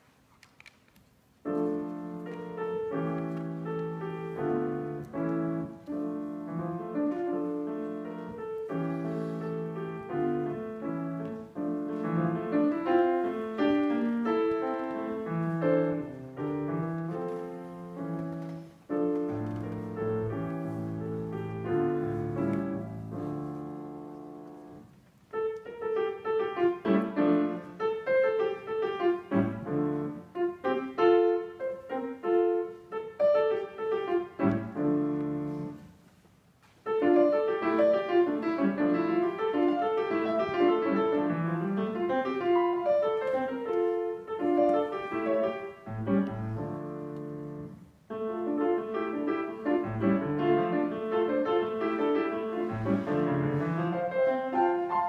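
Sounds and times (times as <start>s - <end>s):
grand piano solo: 1.4s - 36.1s, 36.8s - 55.0s.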